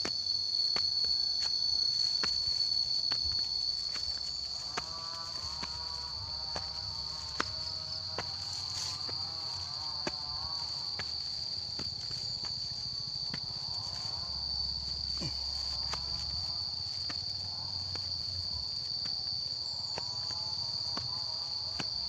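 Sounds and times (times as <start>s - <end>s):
footsteps on dirt path: 0.0s - 22.0s
insects droning: 0.0s - 22.0s.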